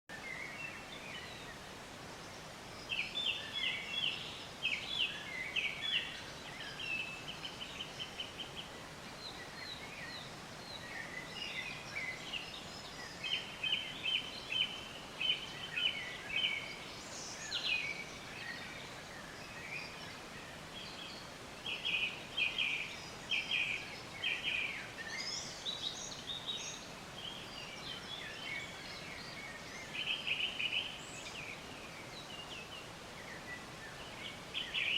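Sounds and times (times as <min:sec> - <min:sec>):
outdoor background hiss: 0:00.1 - 0:34.9.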